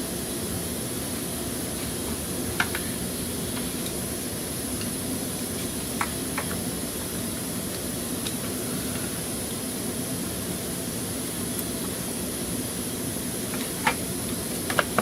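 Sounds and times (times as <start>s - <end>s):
steady hissing: 0.0s - 15.0s.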